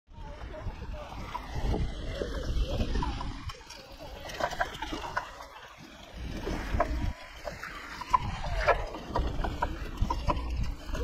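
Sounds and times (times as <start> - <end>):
wind buffeting microphone: 0.1 - 11.0
bicycle rattles and clicks: 0.2 - 11.0.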